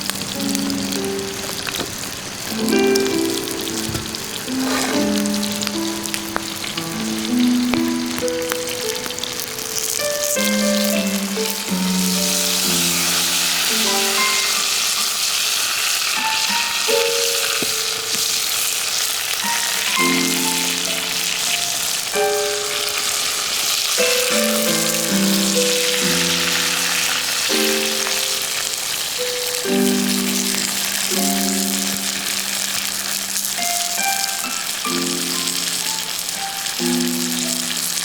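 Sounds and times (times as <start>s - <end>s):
campfire sizzling and crackling: 0.0s - 38.0s
slow background music: 0.0s - 38.0s.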